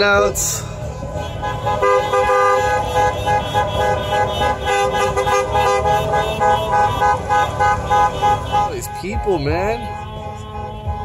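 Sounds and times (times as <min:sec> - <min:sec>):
car horns honking: 0:00.0 - 0:11.0
low traffic rumble: 0:00.0 - 0:11.0.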